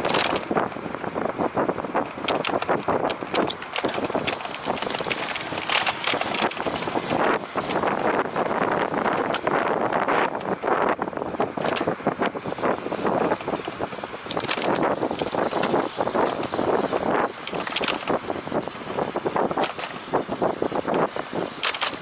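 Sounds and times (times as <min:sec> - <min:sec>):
bicycle knocks and rattles: 0:00.0 - 0:22.0
wind buffeting microphone: 0:00.0 - 0:22.0.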